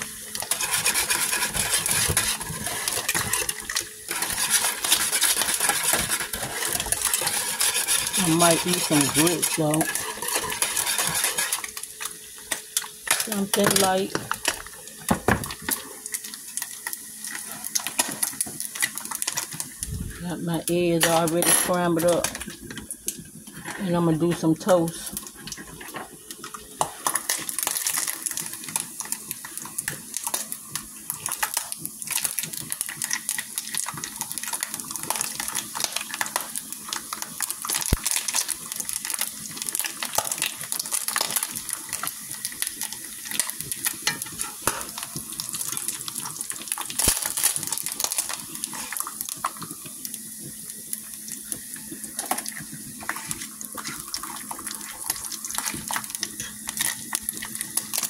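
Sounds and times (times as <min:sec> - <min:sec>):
bacon sizzling in skillet: 0:00.0 - 0:58.0.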